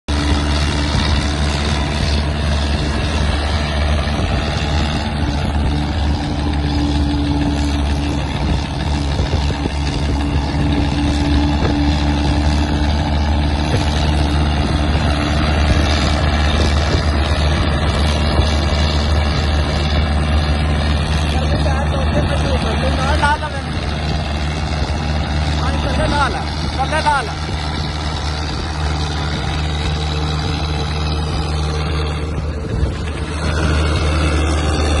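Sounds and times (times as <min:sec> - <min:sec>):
diesel tractor engine under load: 0:00.0 - 0:35.0.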